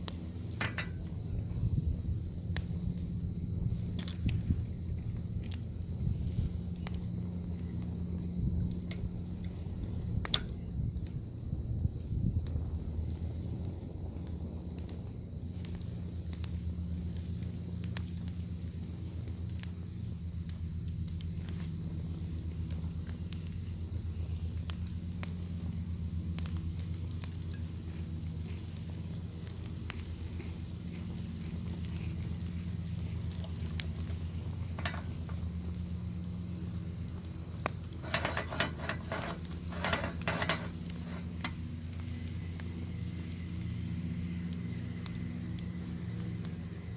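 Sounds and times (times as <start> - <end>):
fire crackling: 0.0 - 46.9.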